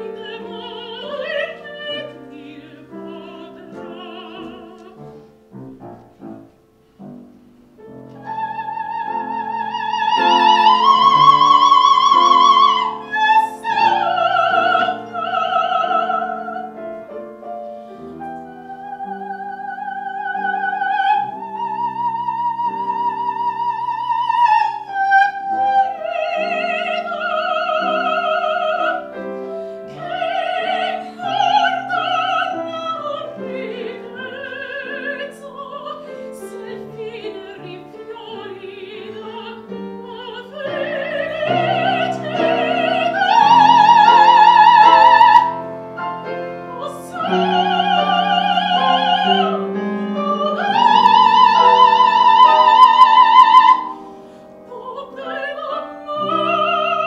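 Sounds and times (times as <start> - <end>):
piano accompaniment: 0.0 - 57.0.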